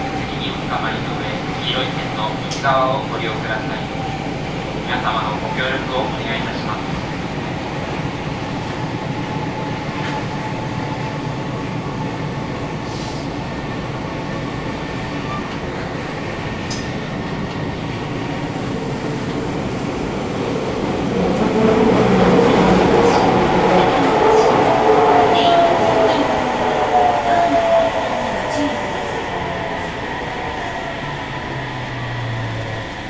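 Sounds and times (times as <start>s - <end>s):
train wheels and motors rumbling: 6.3s - 33.0s.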